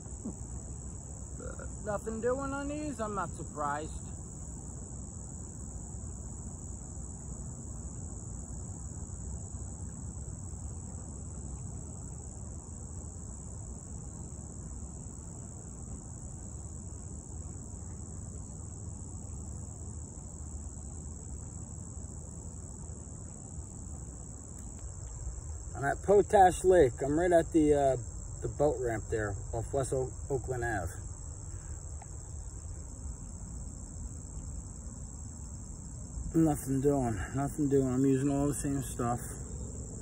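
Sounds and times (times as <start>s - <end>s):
crickets chirping: 0.0s - 40.0s
low steady rumble: 0.0s - 40.0s.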